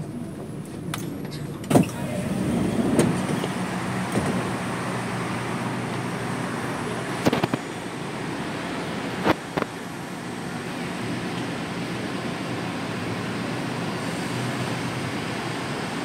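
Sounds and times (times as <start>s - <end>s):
train hum and whir: 0.0s - 16.0s.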